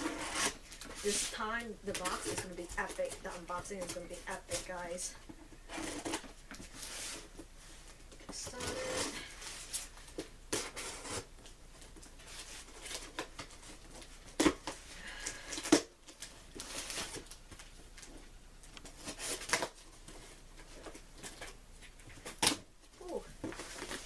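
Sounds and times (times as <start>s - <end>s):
packing rustling and scraping: 0.0s - 22.7s, 23.3s - 24.0s.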